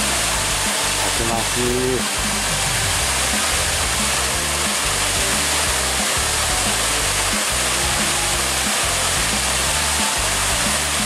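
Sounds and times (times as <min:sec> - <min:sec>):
background music low notes: 0:00.0 - 0:11.0
waterfall rushing over rocks: 0:00.0 - 0:11.0.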